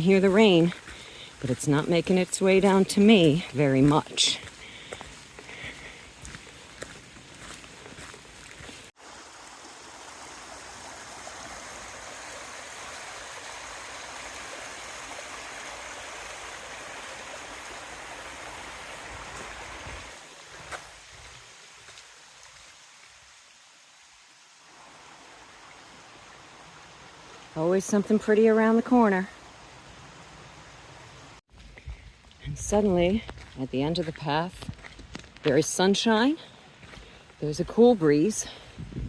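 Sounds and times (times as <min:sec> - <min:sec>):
stream water rushing: 0:00.0 - 0:31.4.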